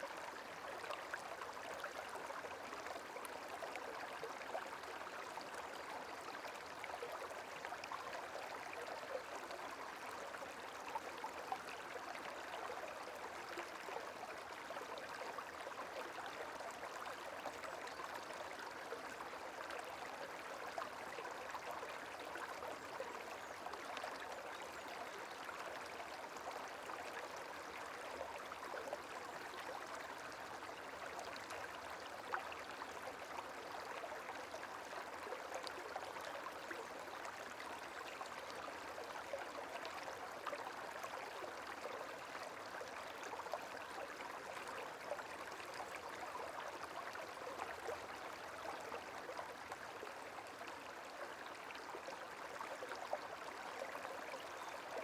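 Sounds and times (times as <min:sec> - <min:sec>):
gentle running water: 0:00.0 - 0:55.0.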